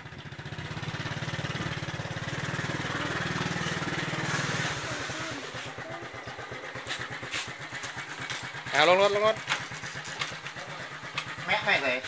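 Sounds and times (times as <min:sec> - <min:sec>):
small motorcycle engine: 0:00.0 - 0:12.0.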